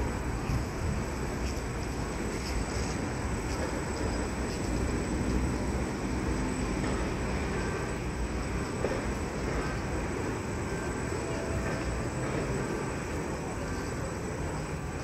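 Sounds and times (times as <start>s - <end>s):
tram rumbling past: 0.0s - 15.0s.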